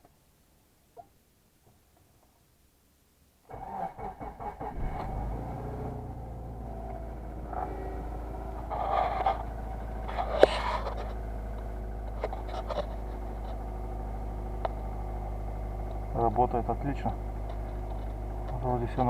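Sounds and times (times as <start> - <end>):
car engine starting and idling: 3.5 - 19.0.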